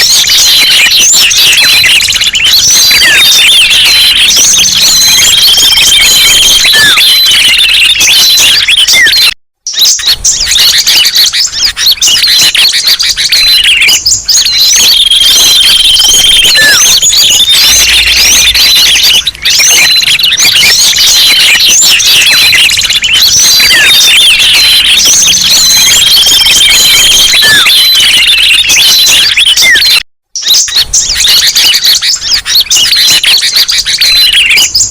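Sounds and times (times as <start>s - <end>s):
songbirds chirping and calling: 0.0s - 34.9s.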